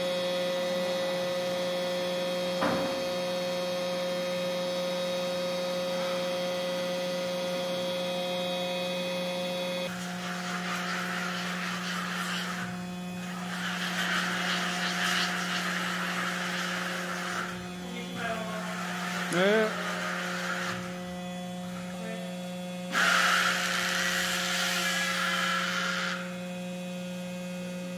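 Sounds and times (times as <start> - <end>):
electrical hum with whining tones: 0.0 - 27.9.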